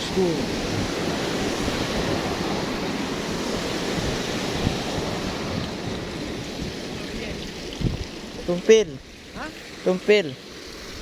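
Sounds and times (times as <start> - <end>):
wind on microphone: 0.0 - 9.7
moving water: 0.0 - 11.0.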